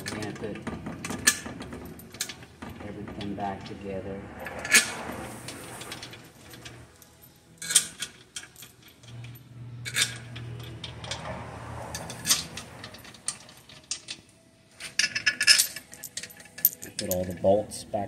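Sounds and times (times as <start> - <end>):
metal parts and tools clinking: 0.0 - 17.6.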